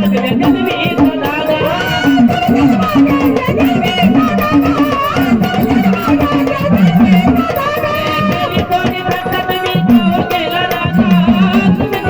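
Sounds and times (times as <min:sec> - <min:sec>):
fast hand-drum beats: 0:00.0 - 0:12.0.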